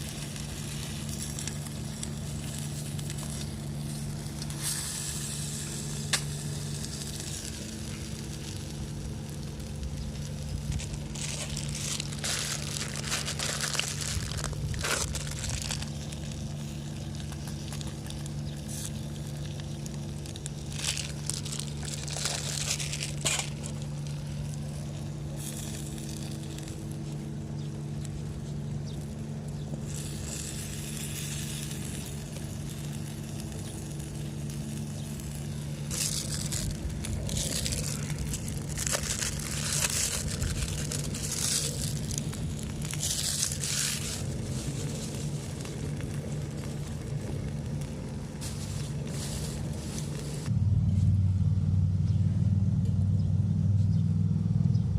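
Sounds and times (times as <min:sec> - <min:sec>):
crackling and crinkling: 0:00.0 - 0:50.5
steady low hum: 0:00.0 - 0:54.9.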